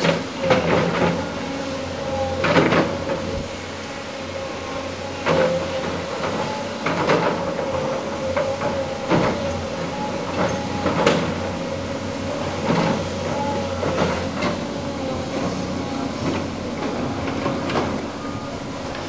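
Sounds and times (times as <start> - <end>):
diesel engine whine: 0.0 - 19.0
metallic clanks from steel tracks: 0.0 - 19.0.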